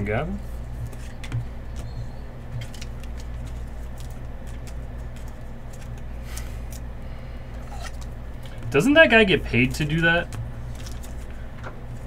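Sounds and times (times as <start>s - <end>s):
plastic card sleeves rustling: 0.4s - 12.0s.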